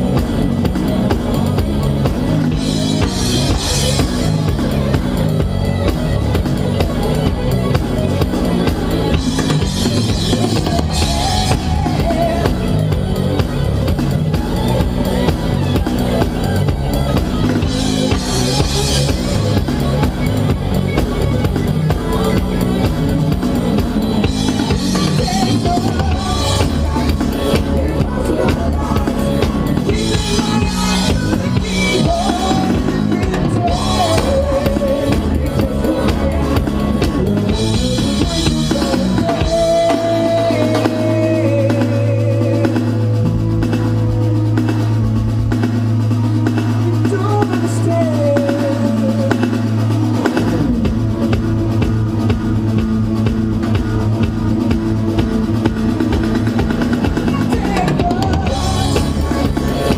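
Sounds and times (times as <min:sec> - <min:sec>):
drum kit beat: 0:00.0 - 0:59.9
live rock band playing: 0:00.0 - 0:59.9.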